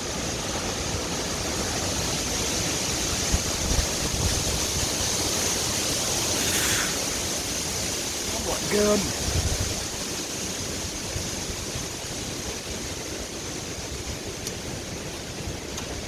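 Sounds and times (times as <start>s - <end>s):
wind rushing through trees: 0.0s - 16.0s
wind buffeting microphone: 1.6s - 16.0s.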